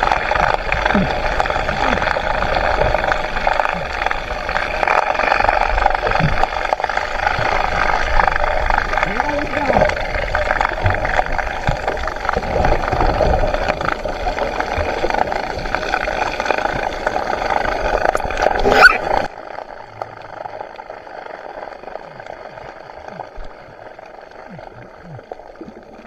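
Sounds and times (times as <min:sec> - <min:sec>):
muffled underwater gurgling: 0:00.0 - 0:26.0.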